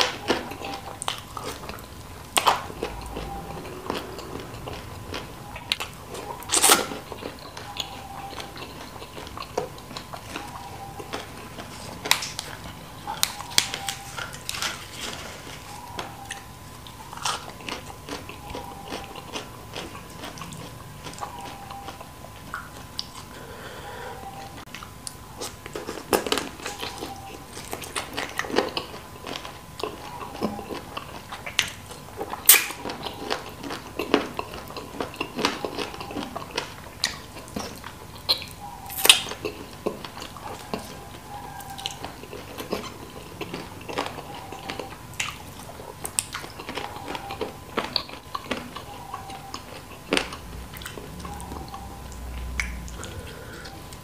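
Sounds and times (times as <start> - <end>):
biting and chewing: 0.0 - 23.4, 24.5 - 54.0.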